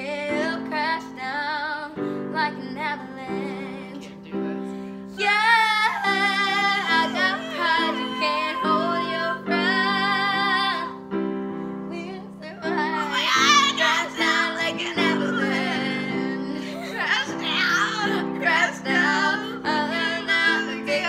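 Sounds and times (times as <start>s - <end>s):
women singing pop ballad: 0.0s - 11.1s, 11.9s - 21.0s
piano chords: 0.0s - 21.0s.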